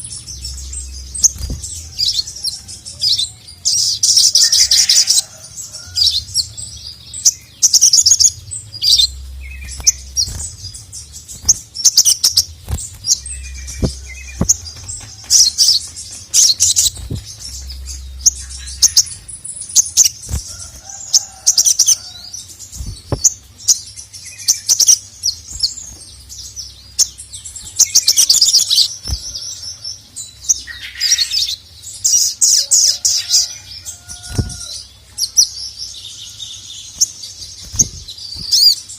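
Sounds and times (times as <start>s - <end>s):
sunbird twittering song: 0.0s - 38.9s.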